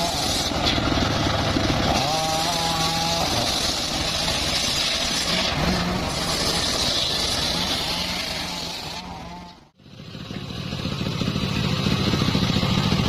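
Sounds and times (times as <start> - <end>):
sawmill engine running: 0.0 - 13.0.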